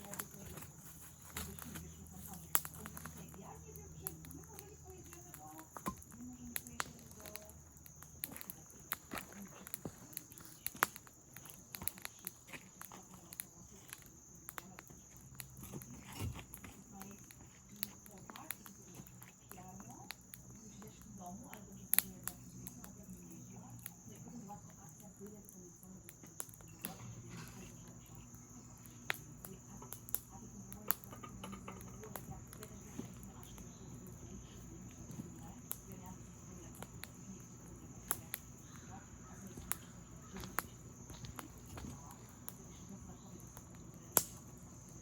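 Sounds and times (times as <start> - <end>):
wood campfire crackling: 0.0 - 45.0.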